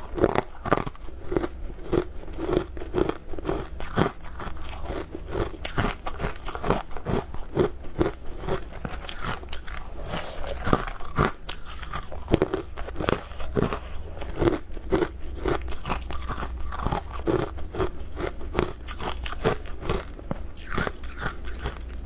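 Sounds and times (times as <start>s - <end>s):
hard candy crunching in mouth: 0.0s - 22.0s.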